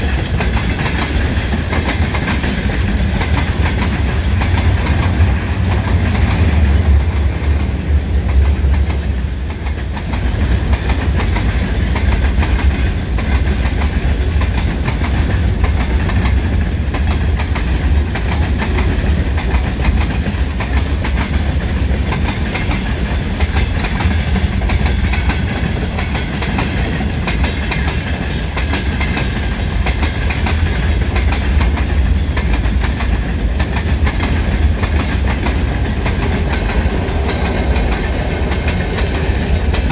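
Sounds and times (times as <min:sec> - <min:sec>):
train low rumble: 0:00.0 - 0:39.9
wheels clicking over rail joints: 0:00.0 - 0:39.9.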